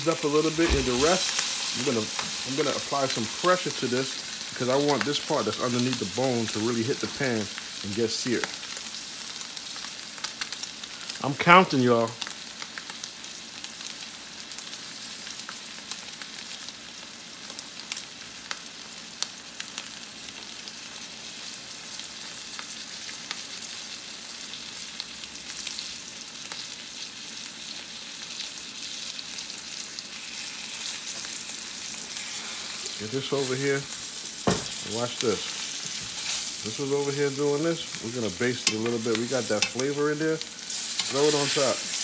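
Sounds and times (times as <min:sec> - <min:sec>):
steak sizzling in skillet: 0:00.0 - 0:42.0.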